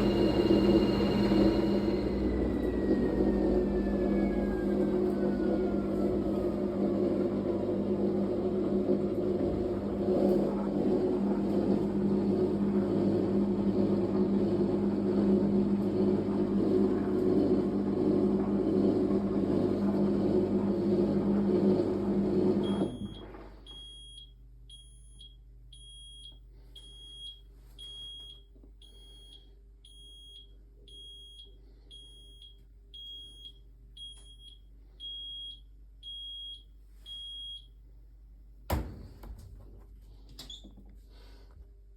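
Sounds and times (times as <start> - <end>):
washing machine humming: 0.0 - 26.2, 26.8 - 41.9.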